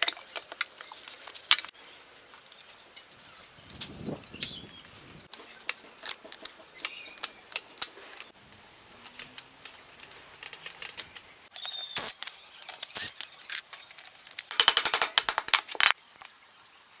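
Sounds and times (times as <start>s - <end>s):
metal parts clicking and clinking: 0.0s - 16.3s.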